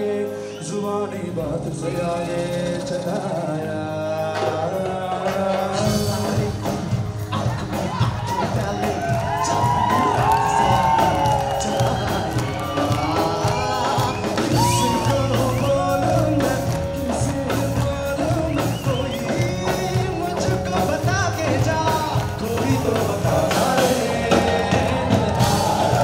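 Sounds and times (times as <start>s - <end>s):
men singing into microphones: 0.0s - 26.0s.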